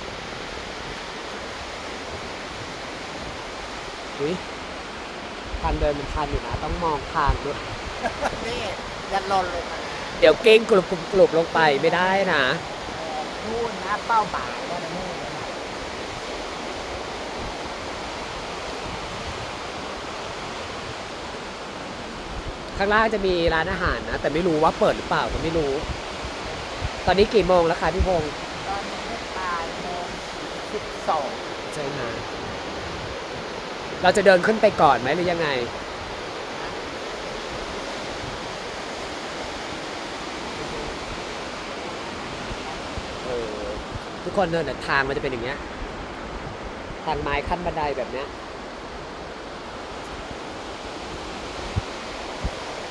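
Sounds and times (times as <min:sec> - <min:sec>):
meltwater rushing: 0:00.0 - 0:52.9.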